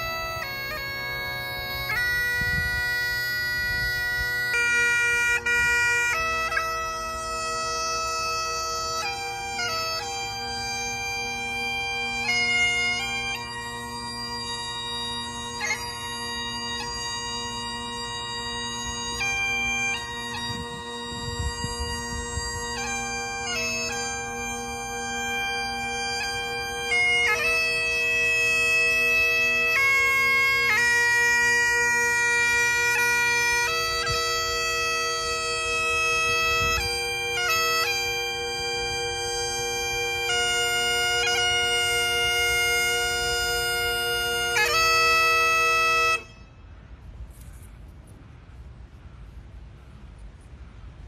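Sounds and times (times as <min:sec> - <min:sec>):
bagpipes playing slow tune: 0:00.0 - 0:47.9.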